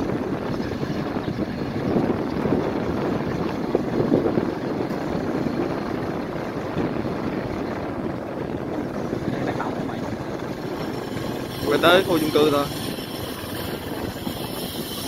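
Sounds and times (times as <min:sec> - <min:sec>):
motorbike engine running: 0:00.0 - 0:15.0
wind buffeting microphone: 0:00.0 - 0:15.0.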